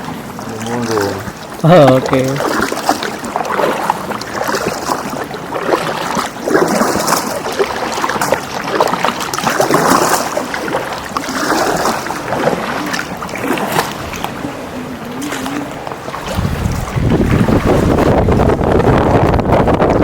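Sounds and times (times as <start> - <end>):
water splashing around paddled canoe: 0.0 - 20.0.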